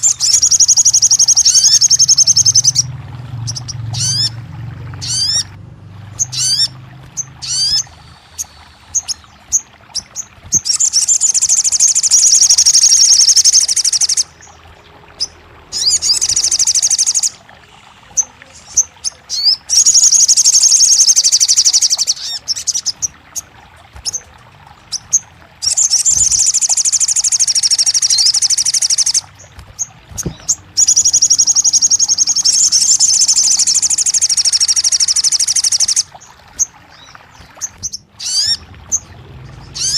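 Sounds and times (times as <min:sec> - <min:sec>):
bird high-pitched trills: 0:00.0 - 0:04.4, 0:05.0 - 0:05.5, 0:06.2 - 0:14.6, 0:15.2 - 0:17.4, 0:18.1 - 0:23.2, 0:24.9 - 0:39.9.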